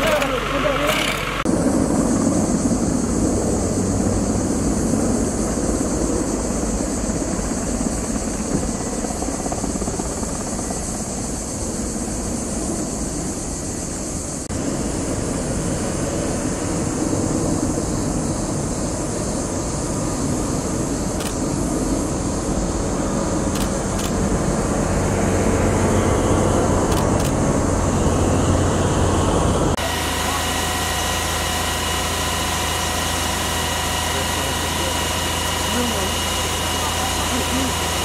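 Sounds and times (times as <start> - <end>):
helicopter flying low overhead: 0.0 - 38.0.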